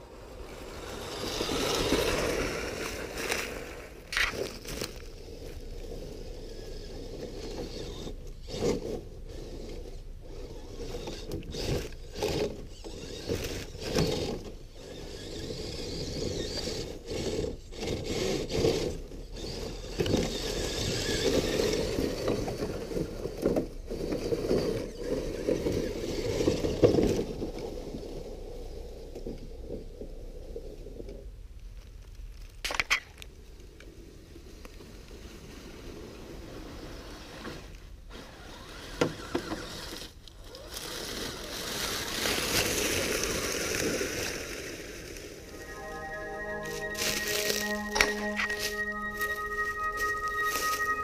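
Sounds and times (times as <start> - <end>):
toy truck crunching through leaves: 0.6 - 28.6, 34.5 - 51.0.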